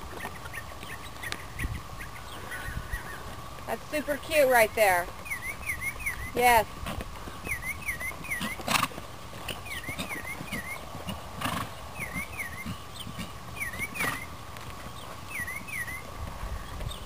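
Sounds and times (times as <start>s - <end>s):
bird chirping: 0.0s - 6.6s, 7.2s - 17.0s.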